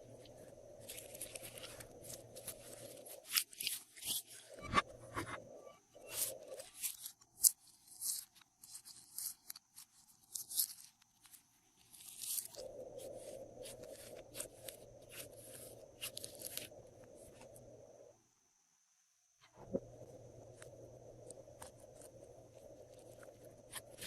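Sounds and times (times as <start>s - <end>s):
slime squishing with sticky crackles: 0.0s - 4.5s, 6.0s - 17.6s, 20.5s - 24.0s.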